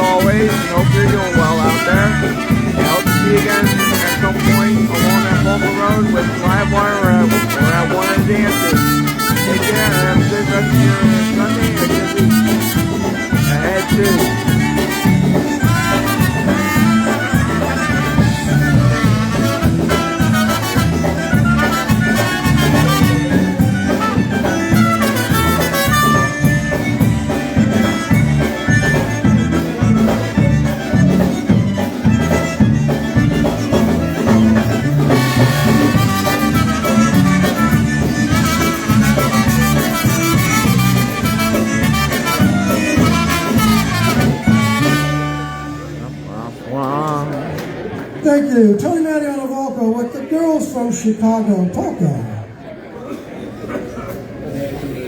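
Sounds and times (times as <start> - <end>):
polka band playing: 0.0 - 48.9.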